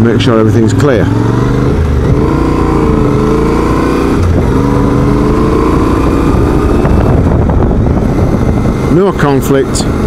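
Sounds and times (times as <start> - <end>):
motorcycle engine accelerating: 0.0 - 10.0
wind rushing over microphone: 0.7 - 10.0.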